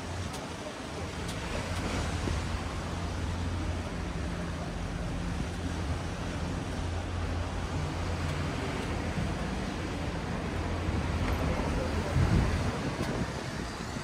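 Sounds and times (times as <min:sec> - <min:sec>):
road traffic hum: 0:00.0 - 0:14.0
sea surf: 0:00.0 - 0:14.0
wind: 0:00.0 - 0:14.0.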